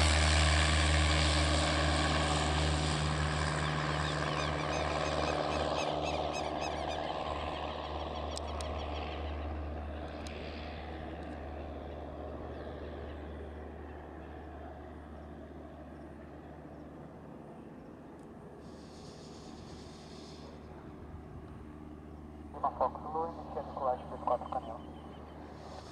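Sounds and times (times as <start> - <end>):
propeller aircraft engine drone: 0.0 - 25.9.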